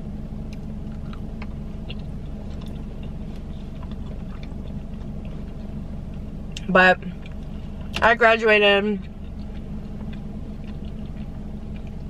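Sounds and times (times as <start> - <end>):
car cabin hum: 0.0 - 12.0
chewing fries: 0.5 - 8.0, 9.0 - 12.0.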